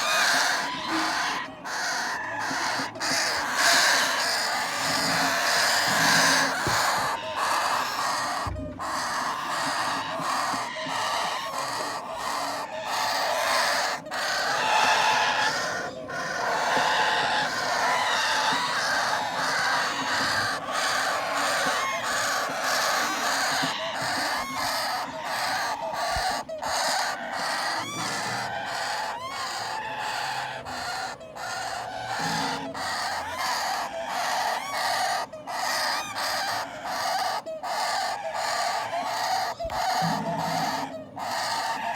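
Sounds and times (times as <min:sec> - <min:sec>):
parrot chicks begging calls: 0:00.0 - 0:41.9.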